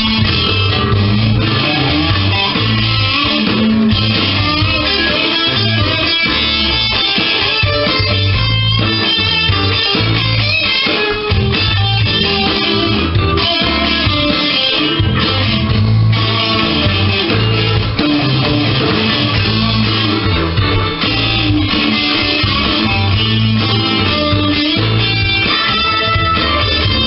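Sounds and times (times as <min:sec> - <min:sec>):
electric guitar playing: 0:00.0 - 0:27.0.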